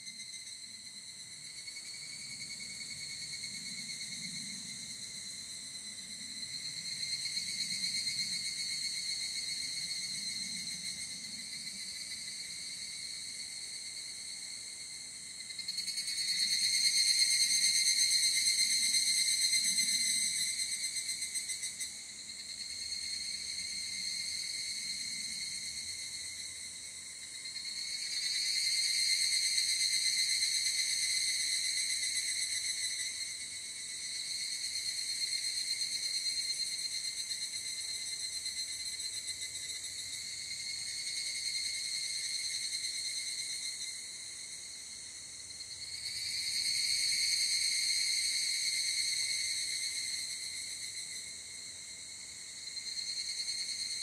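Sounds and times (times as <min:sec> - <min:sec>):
cicadas singing: 0:00.0 - 0:54.0.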